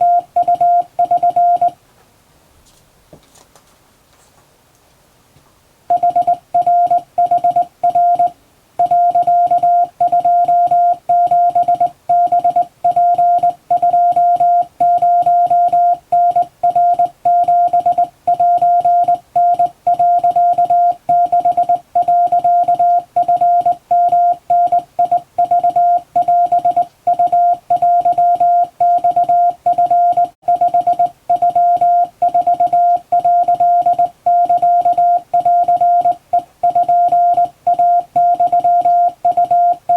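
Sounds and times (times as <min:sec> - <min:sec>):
morse code tone: 0:00.0 - 0:01.8, 0:05.9 - 0:39.9.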